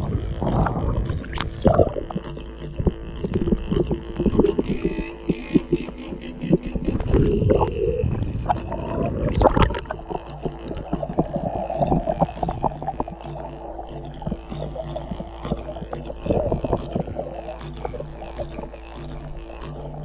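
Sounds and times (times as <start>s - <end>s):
water sloshing and splashing: 0.0s - 4.8s, 6.8s - 20.0s
low steady hum: 0.0s - 20.0s
underwater gurgling and crackling: 0.0s - 20.0s.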